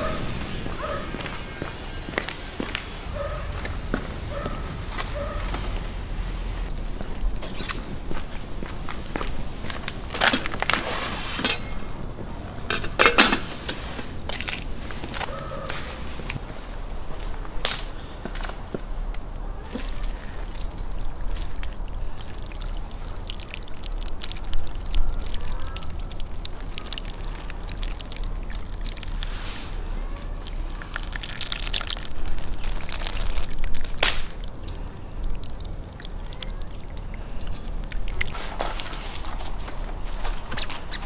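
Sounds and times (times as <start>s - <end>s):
water pouring and splashing on fish: 3.0s - 17.0s, 19.6s - 41.0s.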